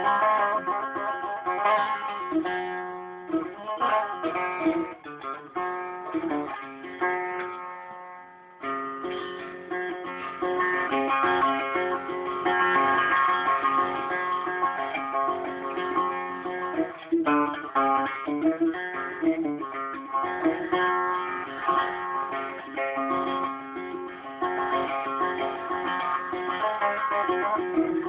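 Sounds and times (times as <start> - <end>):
plucked lute melody: 0.0 - 28.0.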